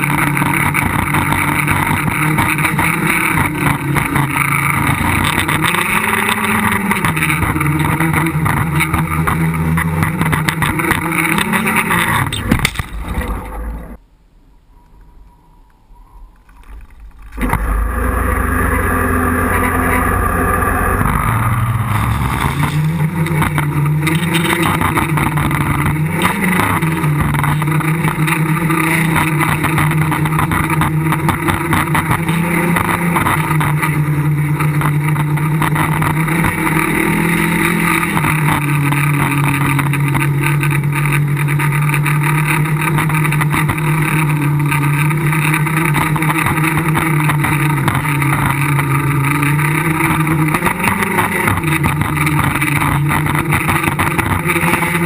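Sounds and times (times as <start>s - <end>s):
drone motors humming: 0.0s - 55.0s.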